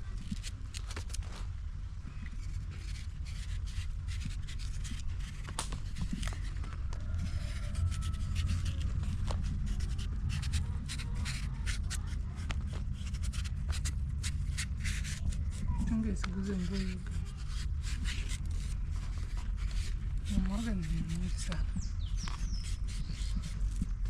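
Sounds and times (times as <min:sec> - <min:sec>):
scraping and scratching: 0:00.0 - 0:24.0
low rumble: 0:01.4 - 0:24.0.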